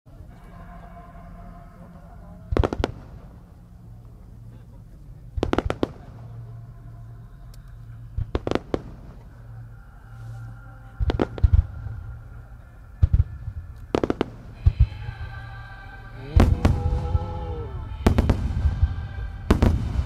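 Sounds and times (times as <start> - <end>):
music playing: 0.1 - 20.0.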